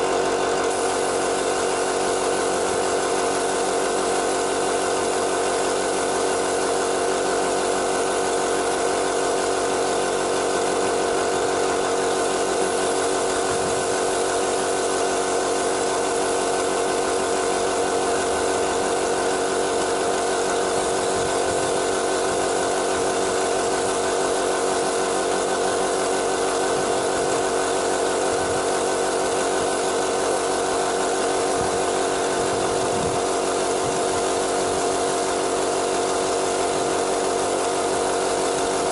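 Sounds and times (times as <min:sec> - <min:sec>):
air compressor humming: 0:00.0 - 0:38.9
air hissing: 0:00.4 - 0:09.2, 0:09.8 - 0:38.8.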